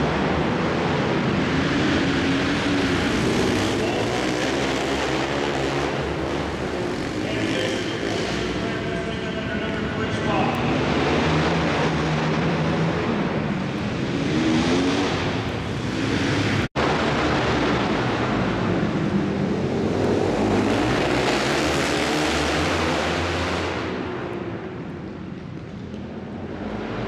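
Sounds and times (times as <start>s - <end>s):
motorcycle engines passing: 0.0s - 27.0s.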